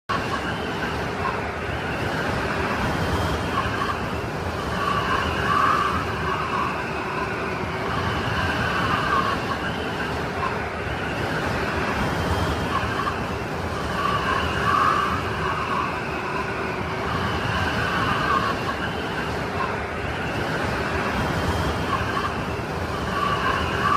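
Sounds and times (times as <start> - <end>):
blizzard wind rushing: 0.0 - 23.9
howling wind whistle: 0.0 - 23.9.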